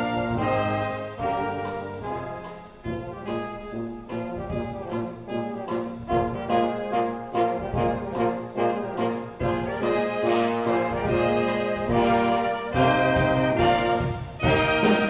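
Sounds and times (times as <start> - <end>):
brass band playing lively tune: 0.0 - 15.0.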